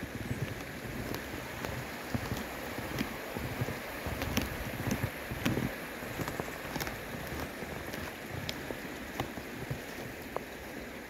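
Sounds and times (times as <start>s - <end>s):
rocky creek flowing: 0.0s - 11.0s
wind on microphone: 0.0s - 11.0s
light ticks: 0.4s - 10.5s.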